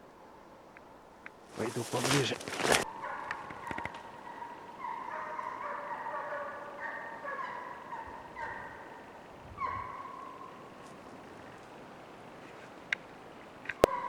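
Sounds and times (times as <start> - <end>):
distant hounds baying: 0.0 - 14.0.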